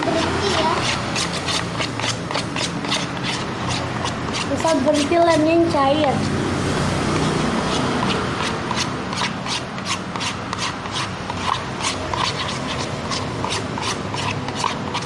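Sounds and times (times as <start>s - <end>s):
wet clicking and scraping: 0.0s - 5.4s, 7.1s - 15.0s
spoon stirring sticky slime: 0.0s - 6.4s, 7.1s - 15.0s.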